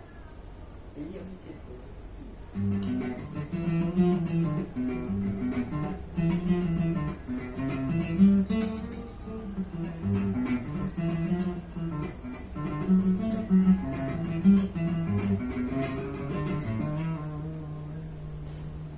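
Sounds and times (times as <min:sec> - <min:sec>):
acoustic guitar playing: 0:02.5 - 0:18.9.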